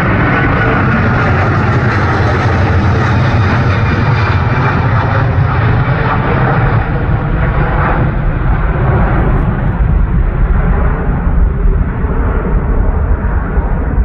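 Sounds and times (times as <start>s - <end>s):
jet engines rumbling overhead: 0.0s - 14.0s.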